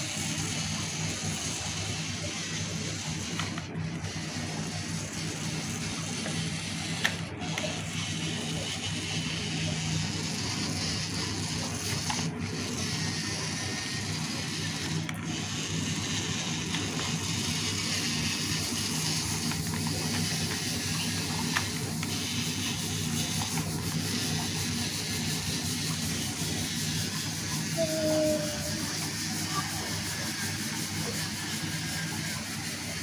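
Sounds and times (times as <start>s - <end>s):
small electric motor whirring: 0.0s - 33.0s.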